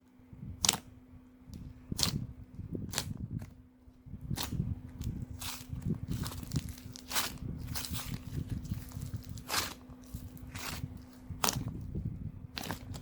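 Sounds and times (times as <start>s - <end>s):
slime squishing: 0.6s - 0.9s, 1.6s - 3.6s, 4.2s - 13.0s.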